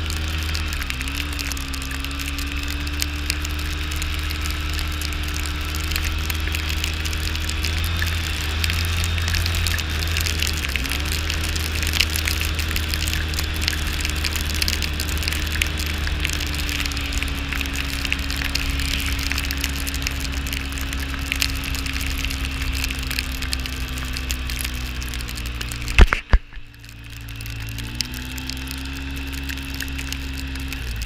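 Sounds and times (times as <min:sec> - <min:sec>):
snow and ice hitting camera: 0:00.0 - 0:31.0
vehicle engine running: 0:00.0 - 0:31.0.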